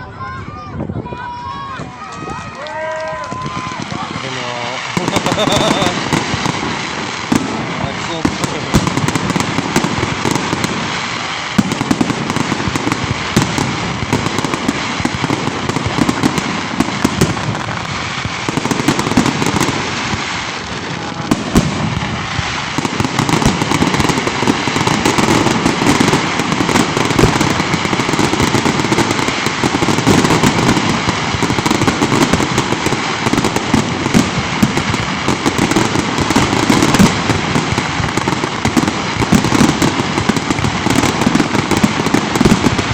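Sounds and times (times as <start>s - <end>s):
fireworks crackling pops: 0.0s - 42.9s.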